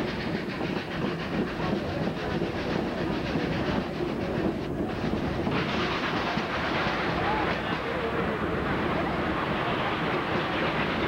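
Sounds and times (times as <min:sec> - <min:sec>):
steam locomotive working: 0:00.0 - 0:11.0
train wheels clattering on rails: 0:00.0 - 0:11.0.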